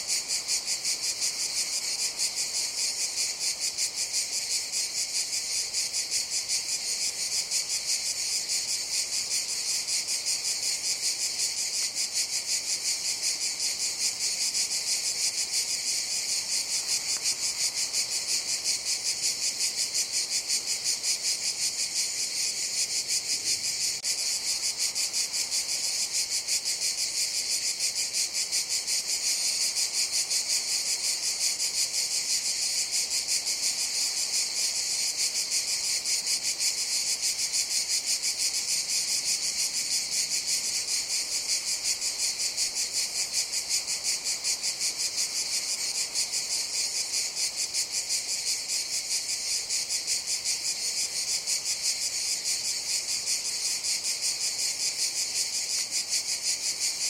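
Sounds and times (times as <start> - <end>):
cicadas buzzing: 0.0 - 57.0.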